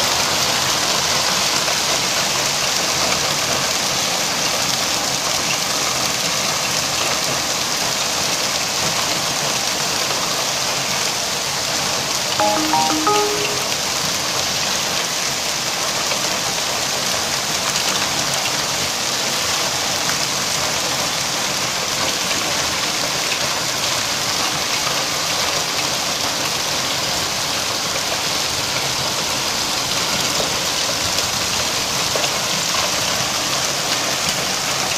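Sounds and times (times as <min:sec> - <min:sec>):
hail and rain pelting down: 0:00.0 - 0:12.2, 0:15.6 - 0:34.9.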